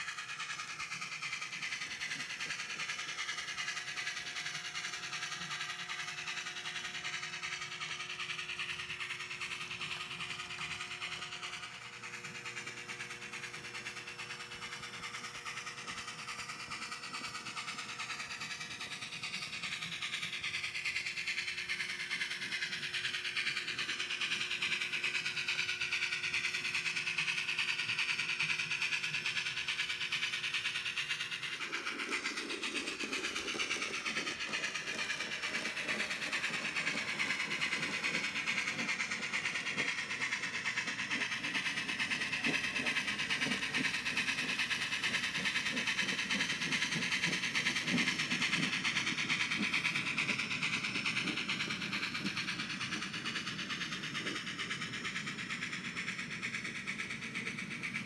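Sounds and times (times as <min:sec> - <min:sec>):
simulated steam chuffing: 0:00.0 - 0:58.0.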